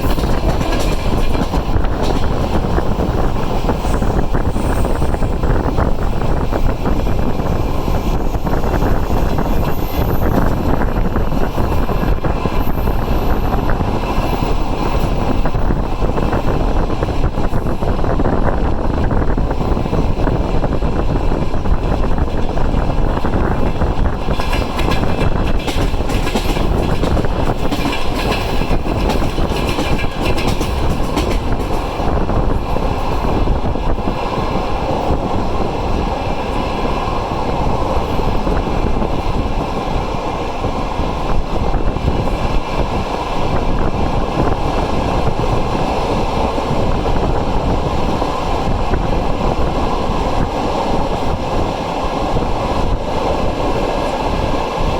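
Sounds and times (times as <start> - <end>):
rushing air: 0.0 - 54.9
train wheels rumbling on rails: 0.0 - 54.9.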